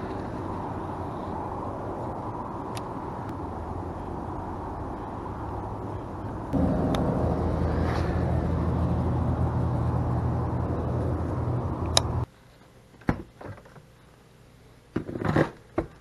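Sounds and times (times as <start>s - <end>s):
outdoor rumble with low hum: 0.0s - 16.0s.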